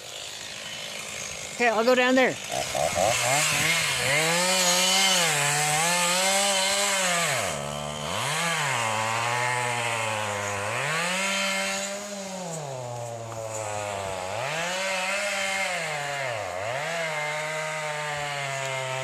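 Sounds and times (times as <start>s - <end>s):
chainsaw running at high revs: 0.0s - 19.0s.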